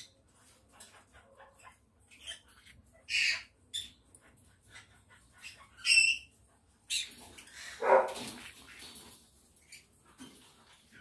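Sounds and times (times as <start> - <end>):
parrots squawking: 0.0 - 8.9.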